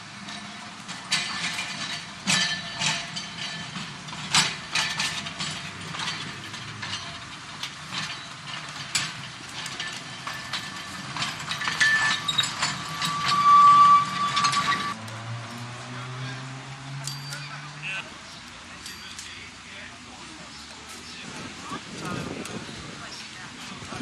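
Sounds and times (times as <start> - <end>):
electric tram rattling: 0.0 - 19.8.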